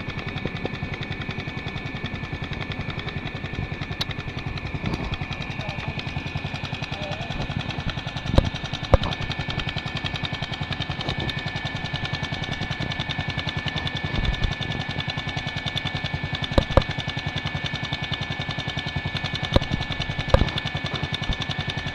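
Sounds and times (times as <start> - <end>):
atv engine idling: 0.0 - 21.9.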